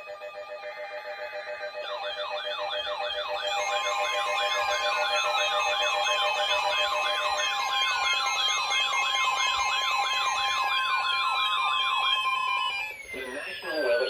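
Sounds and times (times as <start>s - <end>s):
falling siren wails: 0.0s - 14.0s
fast warbling siren: 0.0s - 14.0s
steady alarm tone: 0.0s - 14.0s.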